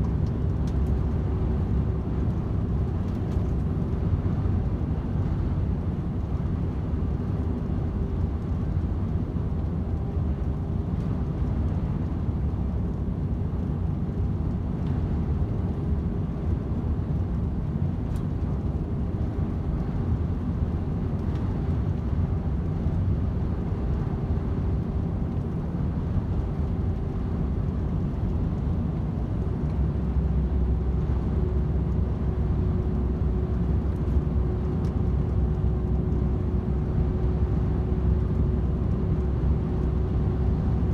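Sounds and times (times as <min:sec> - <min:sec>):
diesel truck engine drone: 0:00.0 - 0:40.9.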